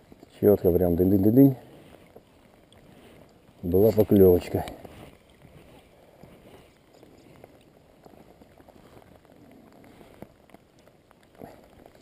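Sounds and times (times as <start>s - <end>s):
light rain pattering on river: 0.0s - 12.0s.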